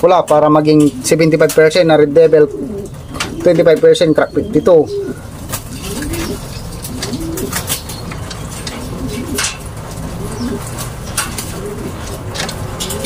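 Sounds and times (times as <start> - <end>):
pigeons cooing: 0.6 - 13.0.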